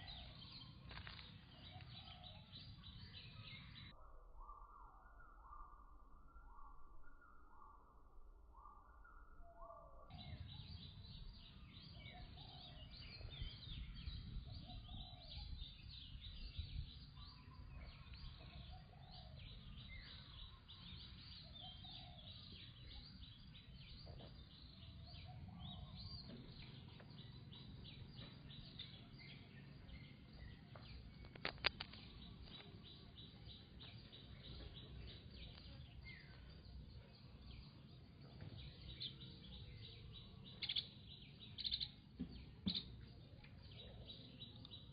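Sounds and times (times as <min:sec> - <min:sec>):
birds chirping: 0:00.0 - 0:07.9, 0:08.5 - 0:44.9.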